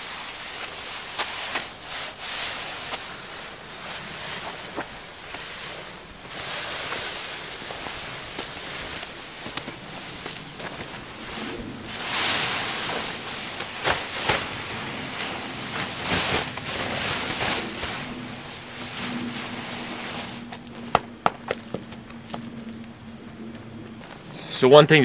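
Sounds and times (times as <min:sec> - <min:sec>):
frozen tent fabric crinkling: 0:00.0 - 0:20.8.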